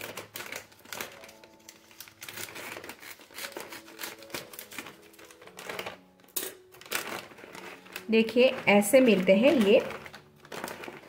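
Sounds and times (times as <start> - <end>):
plastic bag crinkling: 0.0 - 11.0
scissors snipping plastic: 0.0 - 11.0.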